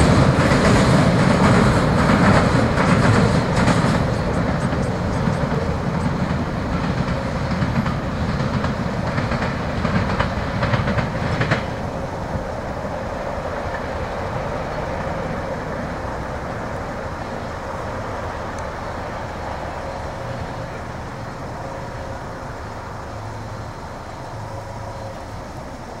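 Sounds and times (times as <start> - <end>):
train wheels clacking on rails: 0.0 - 26.0.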